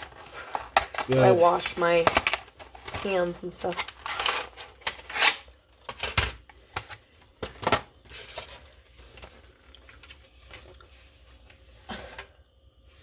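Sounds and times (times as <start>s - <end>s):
wrapper rustling: 0.0s - 6.5s, 7.4s - 11.4s.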